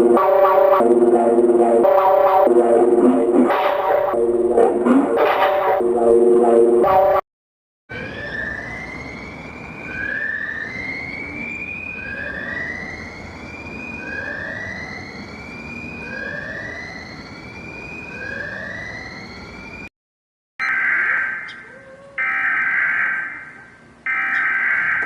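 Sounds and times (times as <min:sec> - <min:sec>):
whooping emergency siren: 0:00.0 - 0:07.2, 0:07.9 - 0:19.9, 0:20.6 - 0:25.0.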